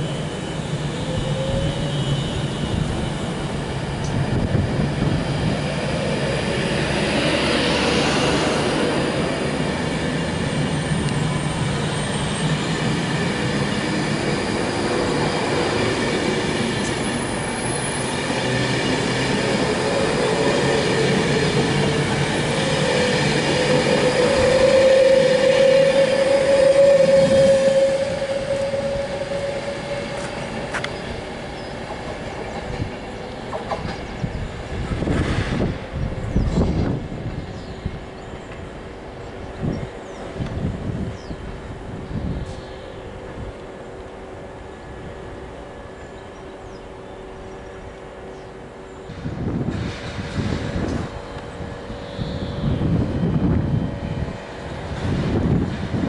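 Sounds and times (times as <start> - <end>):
train motor whine: 0.0 - 37.7, 39.6 - 56.0
train wheels rumbling on rails: 0.0 - 56.0.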